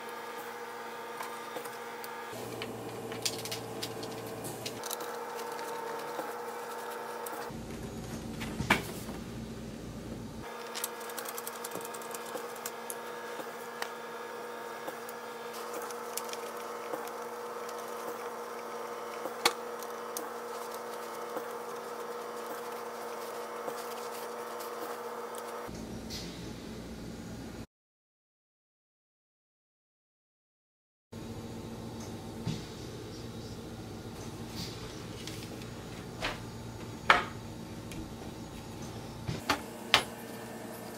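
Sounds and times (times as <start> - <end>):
steady mechanical hum: 0.0 - 27.7, 31.2 - 40.9.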